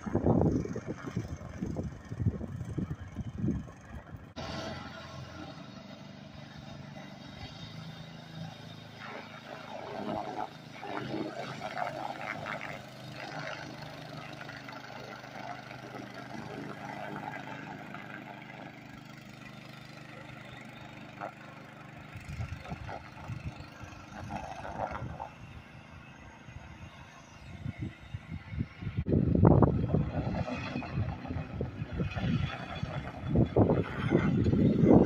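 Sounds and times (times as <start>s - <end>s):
distant boat motor running: 0.0s - 35.0s.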